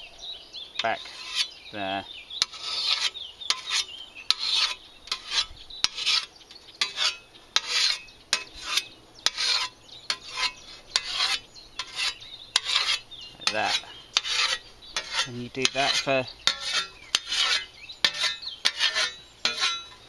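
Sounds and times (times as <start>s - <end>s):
whetstone honing scythe blade: 2.4s - 20.0s.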